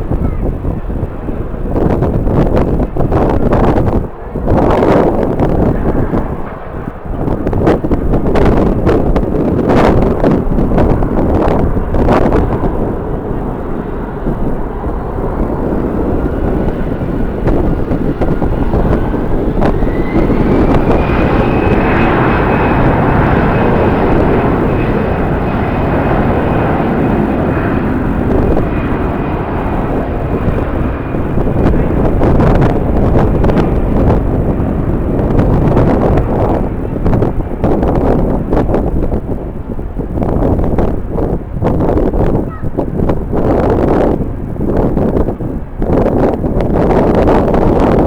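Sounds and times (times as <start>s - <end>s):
jet engine roar: 0.0s - 48.0s
jet engine whine: 0.0s - 48.0s
wind buffeting microphone: 0.0s - 48.0s.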